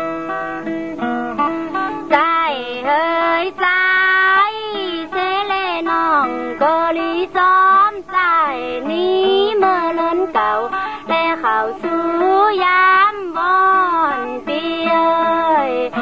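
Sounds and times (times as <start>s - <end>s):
woman singing high voice: 2.1s - 16.0s.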